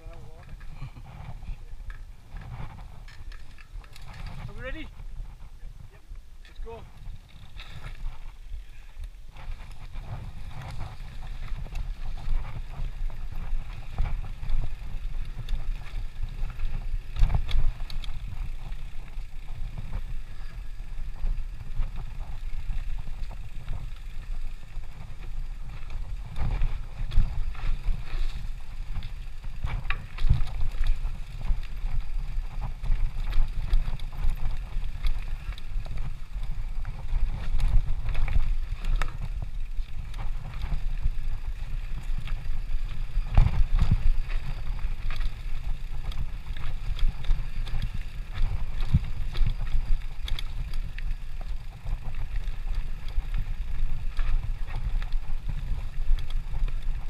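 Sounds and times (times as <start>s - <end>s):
wind buffeting microphone: 0.0s - 57.0s
bike knocks and rattles: 9.3s - 57.0s.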